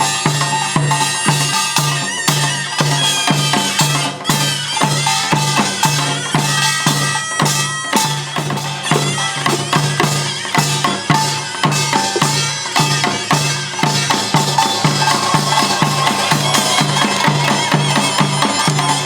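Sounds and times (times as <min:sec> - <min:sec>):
drums and gongs beating: 0:00.0 - 0:19.0
shawm playing melody: 0:00.0 - 0:19.0.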